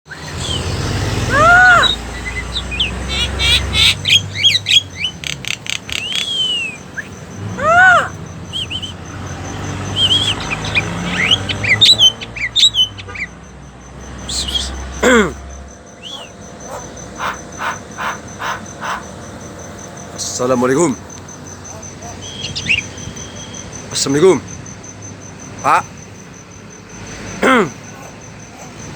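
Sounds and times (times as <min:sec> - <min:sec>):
birds calling and chirping: 0:00.1 - 0:28.9.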